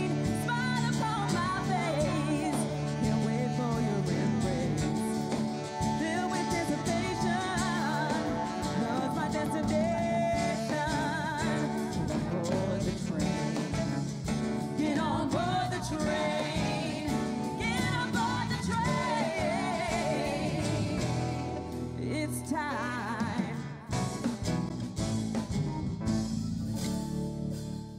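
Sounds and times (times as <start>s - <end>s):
women singing: 0.0s - 13.8s, 14.6s - 23.7s
drums: 0.0s - 27.9s
electric guitar: 0.0s - 27.9s.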